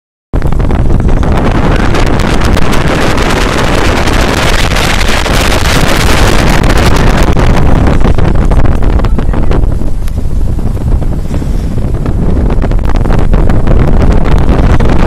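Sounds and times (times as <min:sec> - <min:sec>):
wind buffeting microphone: 0:00.4 - 0:15.0.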